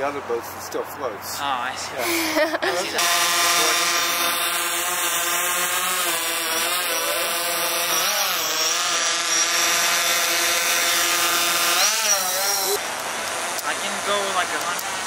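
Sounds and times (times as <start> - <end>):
drone propellers buzzing: 2.0 - 15.0.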